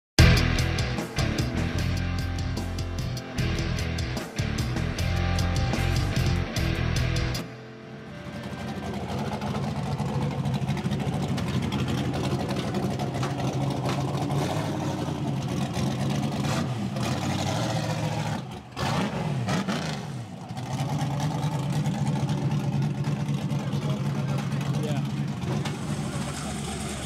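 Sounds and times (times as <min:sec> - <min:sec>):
engine running under load: 0:00.2 - 0:27.0.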